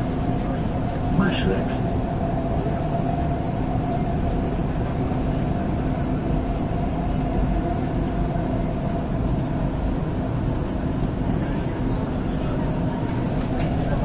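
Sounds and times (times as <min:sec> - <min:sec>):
mid-pitched hum: 0:00.0 - 0:14.0.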